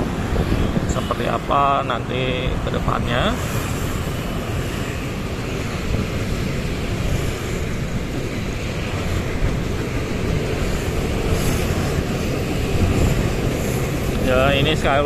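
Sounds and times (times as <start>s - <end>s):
city traffic: 0.0s - 15.0s
wind buffeting microphone: 0.0s - 15.0s.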